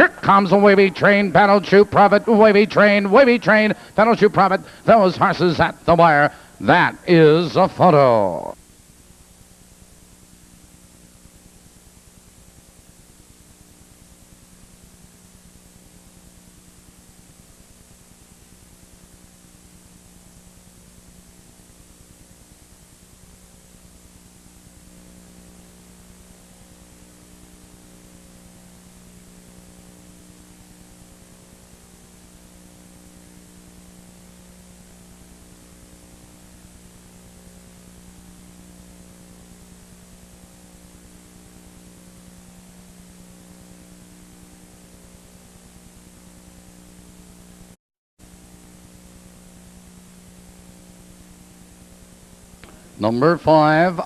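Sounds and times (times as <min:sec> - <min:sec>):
faint hiss: 0:00.0 - 0:54.0
low electrical hum: 0:00.0 - 0:54.0.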